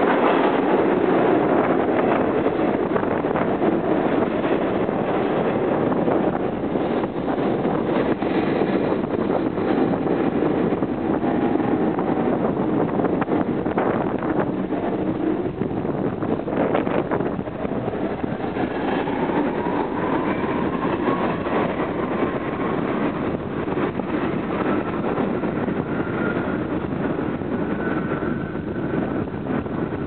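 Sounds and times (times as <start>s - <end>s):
subway train wheels rumbling: 0.0s - 30.0s
train whine rising in pitch: 0.0s - 30.0s.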